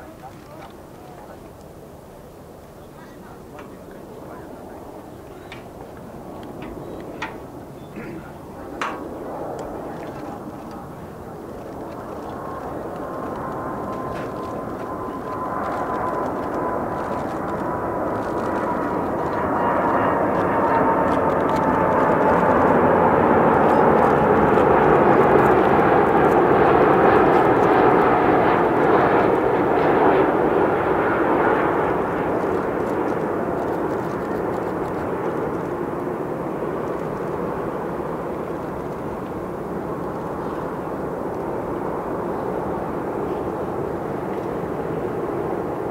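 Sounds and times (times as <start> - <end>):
jet airliner passing: 0.0 - 45.9.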